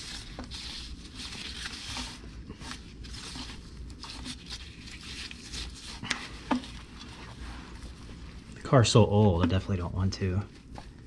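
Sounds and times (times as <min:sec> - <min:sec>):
gloved hand rustling: 0:00.0 - 0:11.0.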